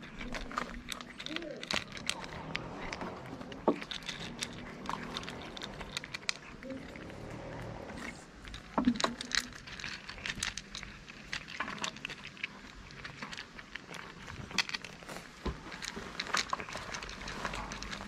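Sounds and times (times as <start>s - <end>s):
cats crunching dry kibble: 0.0s - 18.0s.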